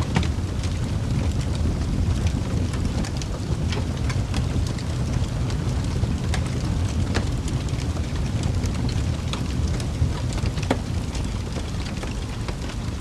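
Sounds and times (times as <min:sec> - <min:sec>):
burning logs crackling and popping: 0:00.0 - 0:13.0
low roar of flames: 0:00.0 - 0:13.0.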